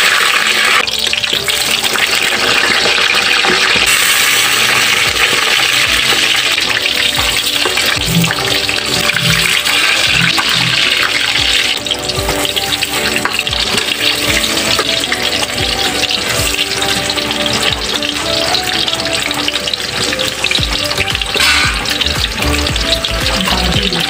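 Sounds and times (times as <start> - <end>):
background music: 0.0 - 24.0
frying in hot oil sizzle: 0.0 - 24.0.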